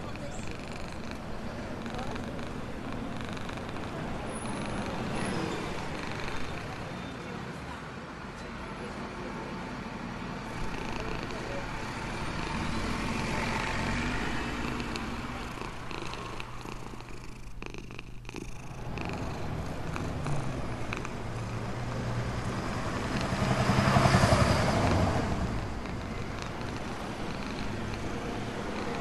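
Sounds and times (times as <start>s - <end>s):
cat purring: 0.0s - 6.9s, 10.5s - 29.0s.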